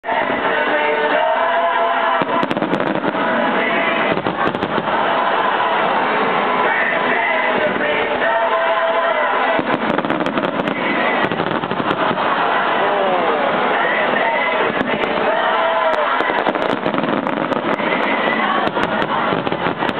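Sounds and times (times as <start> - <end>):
music: 0.0 - 12.8, 13.4 - 19.9
fireworks bursting and crackling: 0.1 - 19.9.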